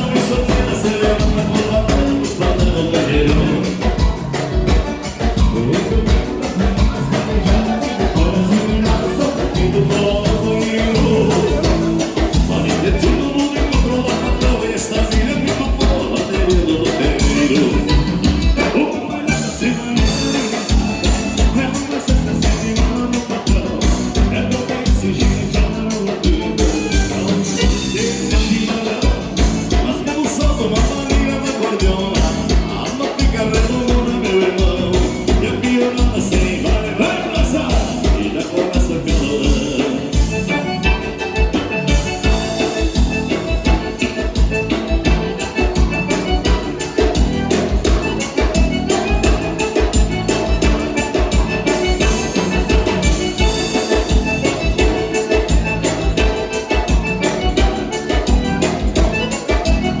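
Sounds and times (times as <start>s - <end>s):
button accordion: 0.0s - 60.0s
drum and bass beat: 0.0s - 60.0s
keyboard: 0.0s - 60.0s.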